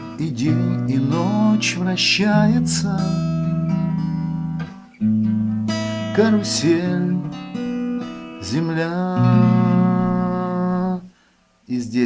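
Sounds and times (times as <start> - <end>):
man singing: 0.0 - 3.7, 6.0 - 12.0
acoustic guitar strumming chords: 0.0 - 12.0.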